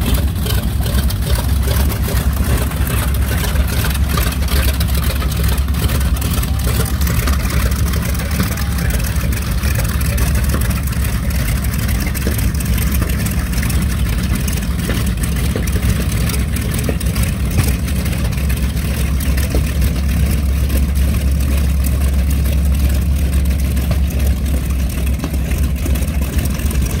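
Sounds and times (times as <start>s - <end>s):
propeller plane engines running: 0.0s - 27.0s.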